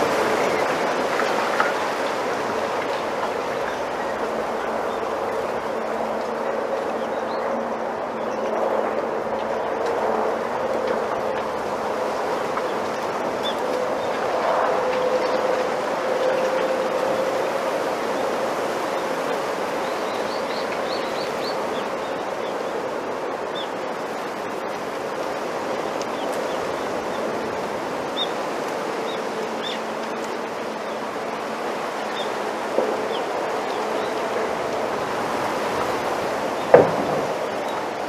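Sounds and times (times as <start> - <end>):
bamboo rustling in wind: 0.0 - 38.0.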